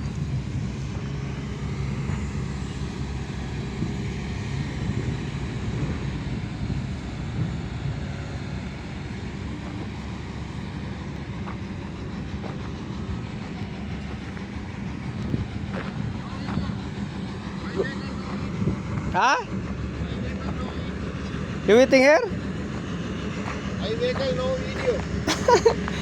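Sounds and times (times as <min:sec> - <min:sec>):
heavy machinery engine drone: 0:00.0 - 0:26.0.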